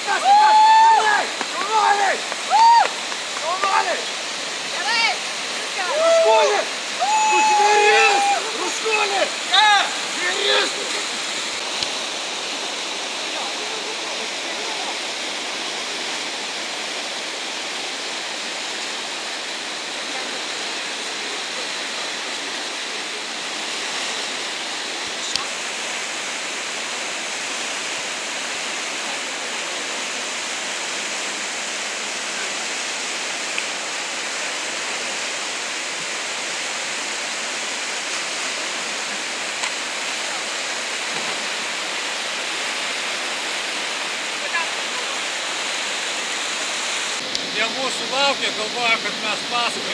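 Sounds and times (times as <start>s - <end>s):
river rapids rushing: 0.0s - 49.9s.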